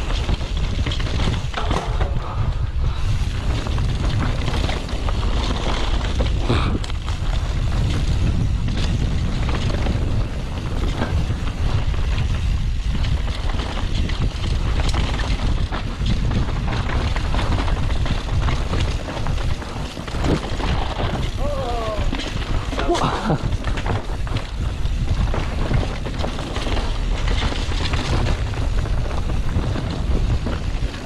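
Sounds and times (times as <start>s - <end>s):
bike rattling and knocking: 0.0s - 31.0s
bike tyres on dirt: 0.0s - 31.0s
wind buffeting microphone: 0.0s - 31.0s.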